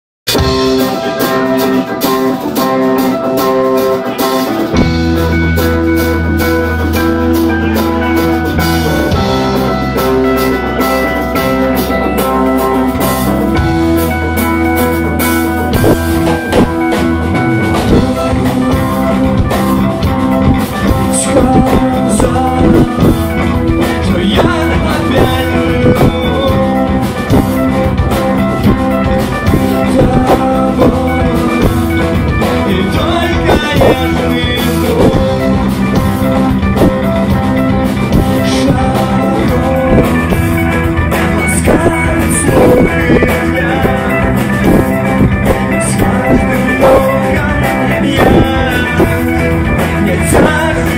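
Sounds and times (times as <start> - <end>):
drum kit beat: 0.3 - 50.9
electric guitar: 0.3 - 50.9
person singing: 0.4 - 50.9.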